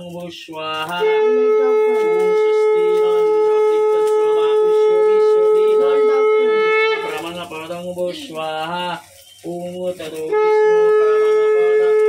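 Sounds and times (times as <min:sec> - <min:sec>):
conch shell blown: 0:00.0 - 0:12.0
faint voices: 0:00.0 - 0:12.0.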